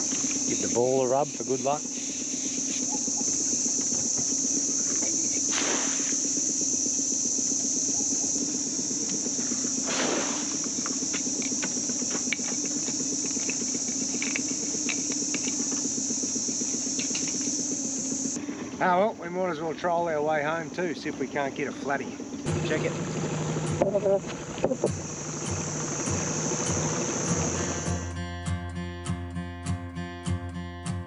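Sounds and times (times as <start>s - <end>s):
boat motor idling: 0.0s - 28.2s
insects droning: 0.0s - 28.9s.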